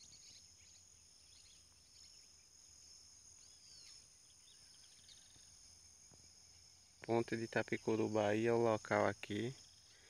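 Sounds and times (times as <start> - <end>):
bird chirps: 0.0 - 8.2
high-pitched insect chorus: 0.0 - 10.0.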